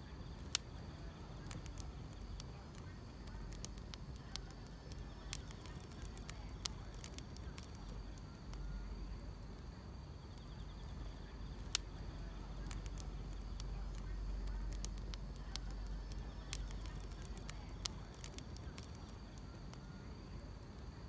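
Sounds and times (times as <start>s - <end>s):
field insects chirring: 0.0s - 21.0s
steady low rumble: 0.0s - 21.0s
wood fire crackling and popping: 0.0s - 21.0s.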